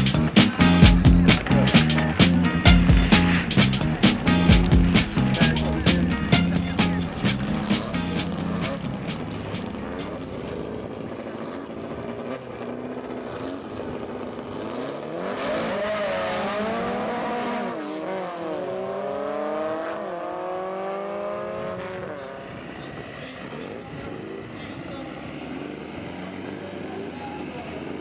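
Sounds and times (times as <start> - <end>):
drag racing car engine: 0.0 - 28.0.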